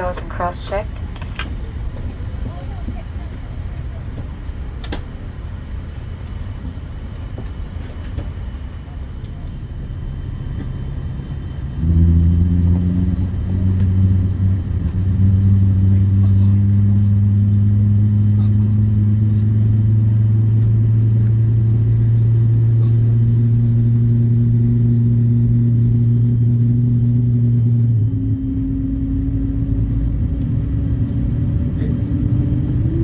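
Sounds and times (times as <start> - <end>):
airliner cabin engine drone: 0.0 - 33.0.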